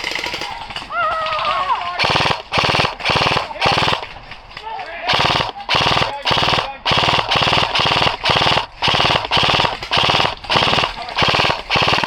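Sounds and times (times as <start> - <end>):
airsoft gun firing bursts: 0.0 - 0.8, 1.9 - 4.4, 5.0 - 12.0.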